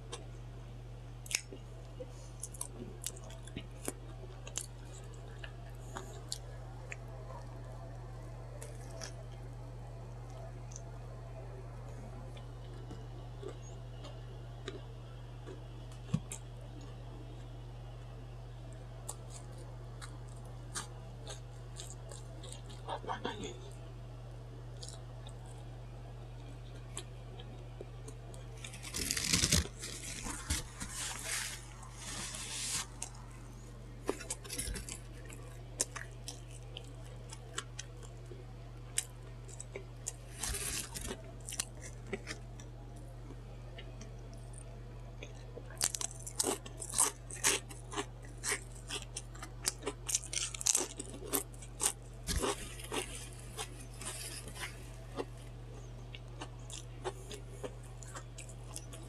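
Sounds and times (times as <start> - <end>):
steady low hum: 0.0 - 59.0
crisp crunching of eating: 1.1 - 59.0.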